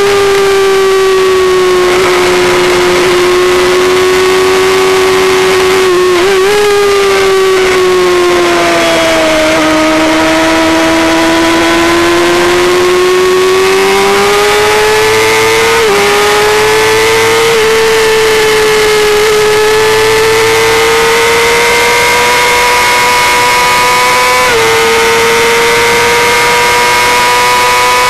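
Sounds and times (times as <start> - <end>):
motorcycle engine revving high: 0.0 - 28.0.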